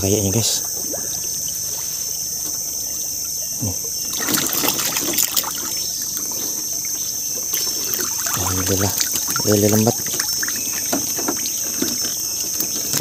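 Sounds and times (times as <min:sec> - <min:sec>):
high insect buzz: 0:00.0 - 0:13.0
water sloshing and splashing: 0:00.0 - 0:13.0.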